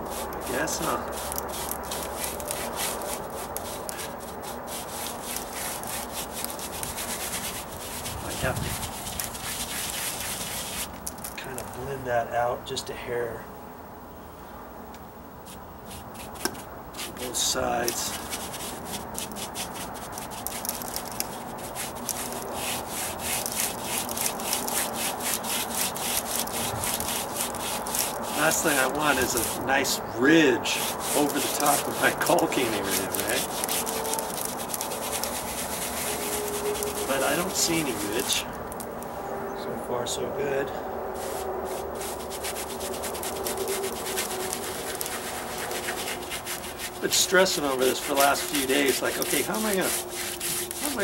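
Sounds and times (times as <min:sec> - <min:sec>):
paintbrush scrubbing stucco: 0:00.0 - 0:11.7, 0:15.4 - 0:39.0, 0:40.6 - 0:51.0.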